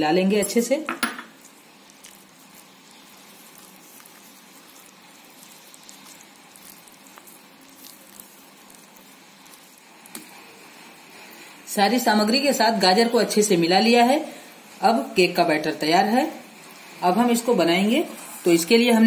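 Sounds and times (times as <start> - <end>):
spatula mixing wet batter: 1.4 - 19.0.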